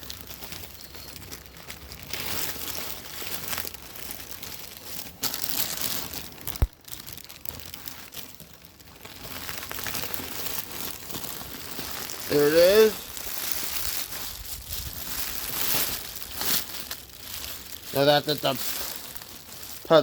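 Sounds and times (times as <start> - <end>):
plastic bags crinkling: 0.0 - 20.0.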